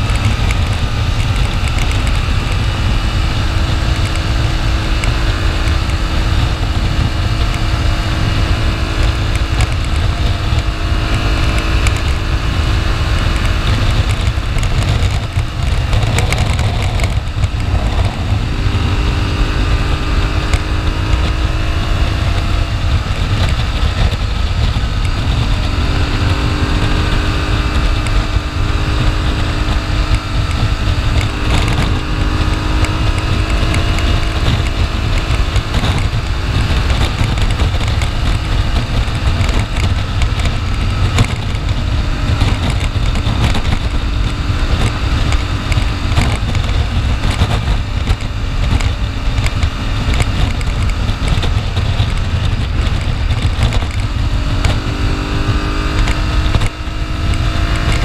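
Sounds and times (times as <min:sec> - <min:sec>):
motorcycle engine running: 0:00.0 - 0:58.0
road noise: 0:00.0 - 0:58.0
wind noise: 0:00.0 - 0:58.0.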